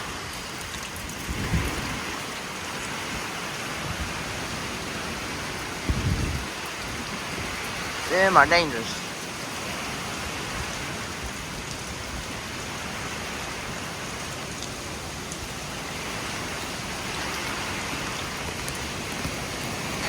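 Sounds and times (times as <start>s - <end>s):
rain falling: 0.0s - 20.0s
stormy wind: 0.0s - 20.0s.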